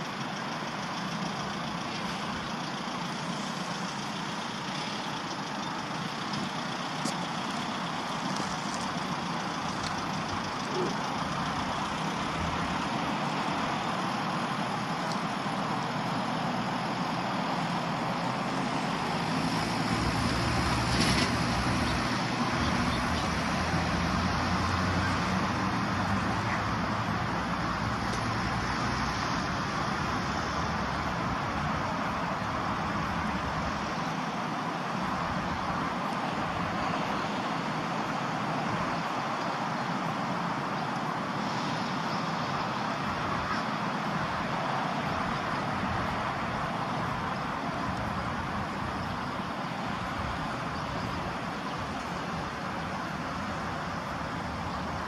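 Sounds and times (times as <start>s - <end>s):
heavy vehicle rumble: 0.0s - 55.0s
road traffic noise: 0.0s - 55.0s.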